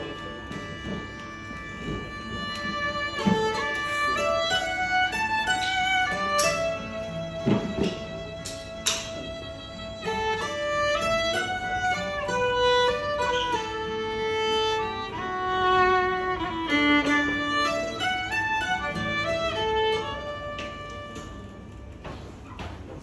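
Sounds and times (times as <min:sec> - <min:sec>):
fiddle playing melody: 0:00.0 - 0:22.1
acoustic guitar strummed softly: 0:00.0 - 0:23.0.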